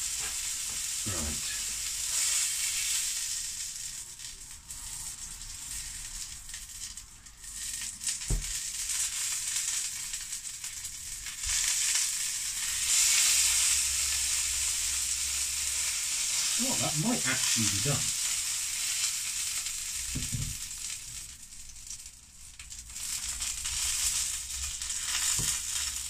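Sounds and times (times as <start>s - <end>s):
duck breast sizzling in a pan: 0.0s - 26.0s.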